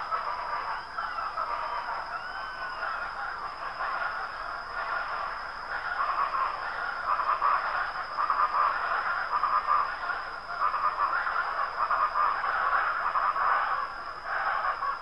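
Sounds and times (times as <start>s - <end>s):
chorus of small animal calls: 0.0s - 15.0s.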